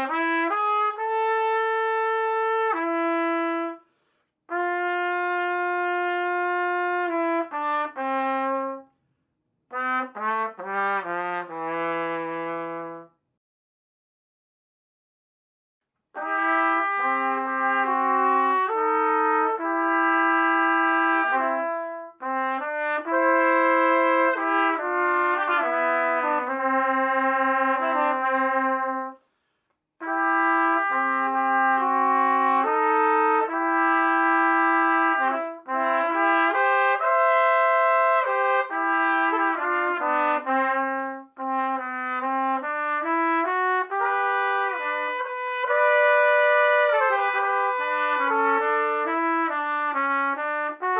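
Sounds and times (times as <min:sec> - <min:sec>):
trumpet duet: 0:00.0 - 0:03.9, 0:04.5 - 0:08.9, 0:09.7 - 0:13.2, 0:16.1 - 0:29.3, 0:30.0 - 0:50.9.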